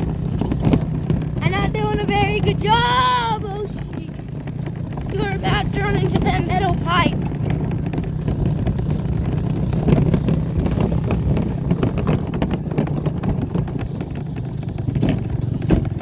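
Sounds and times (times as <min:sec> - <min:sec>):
dirt bike engine at low throttle: 0:00.0 - 0:16.0
small clicks and rattles: 0:00.0 - 0:16.0.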